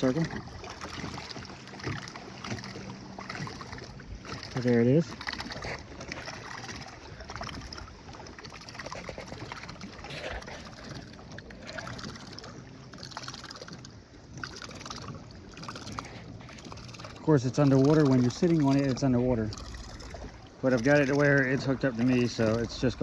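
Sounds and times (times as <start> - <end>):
water washing against hull: 0.0 - 23.0.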